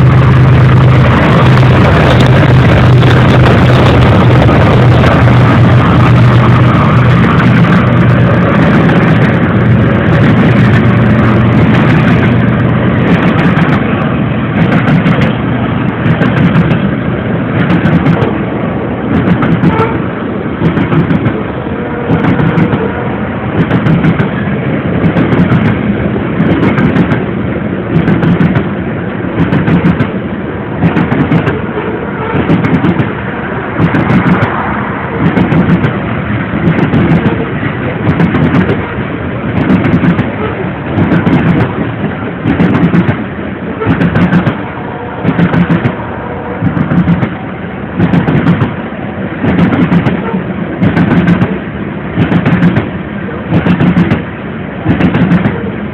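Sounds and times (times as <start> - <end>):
diesel locomotive engine drone: 0.0 - 55.9
wheels clacking over rail joints: 0.0 - 55.9.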